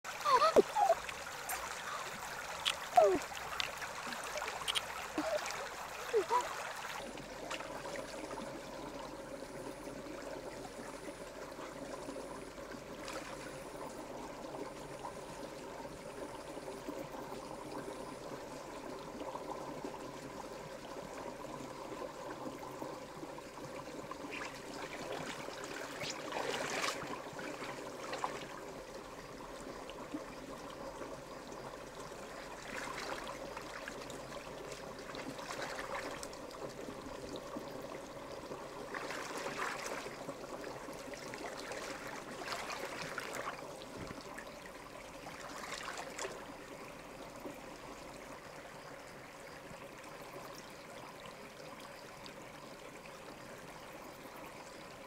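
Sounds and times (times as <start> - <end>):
surges of water noise: 0.0 - 50.4
shallow river water running: 0.0 - 55.0.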